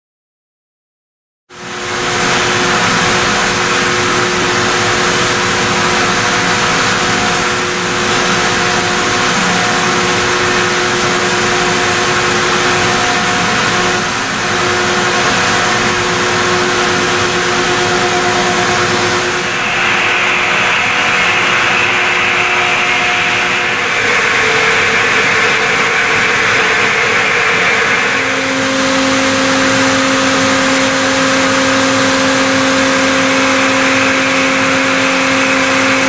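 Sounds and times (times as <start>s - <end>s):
constant whining tones: 1.6s - 36.0s
milling machine cutting steel: 1.7s - 36.0s.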